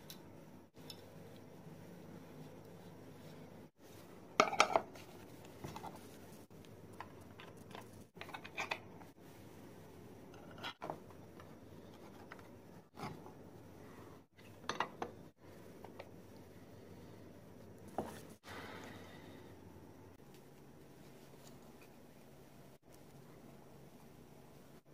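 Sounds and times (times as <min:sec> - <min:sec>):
faint workshop hum: 0:00.0 - 0:24.9.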